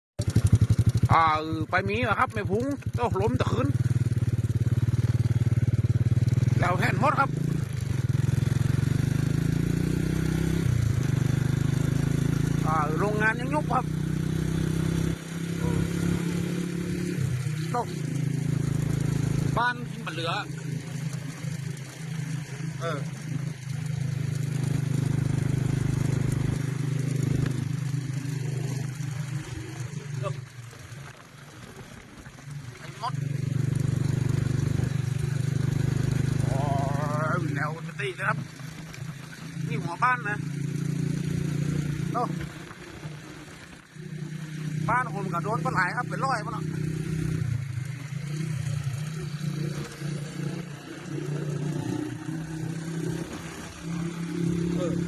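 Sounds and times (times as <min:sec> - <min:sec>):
small engine running: 0:00.2 - 0:55.0.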